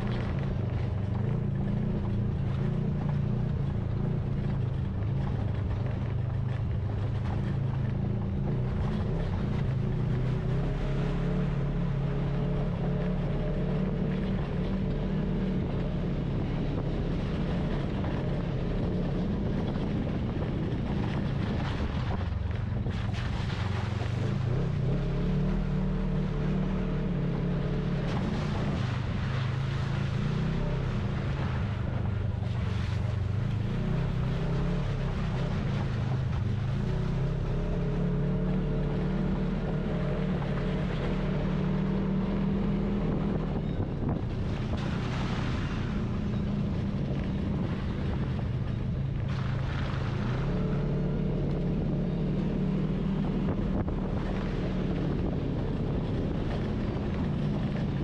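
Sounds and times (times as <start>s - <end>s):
road and wind noise: 0.0s - 58.0s
utv engine running: 0.0s - 58.0s.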